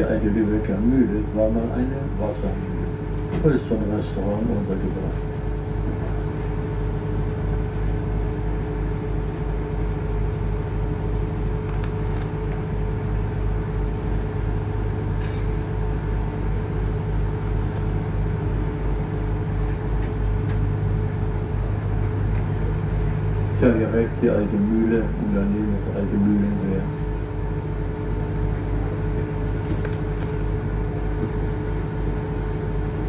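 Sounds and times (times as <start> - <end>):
boat engine humming: 0.0 - 33.0.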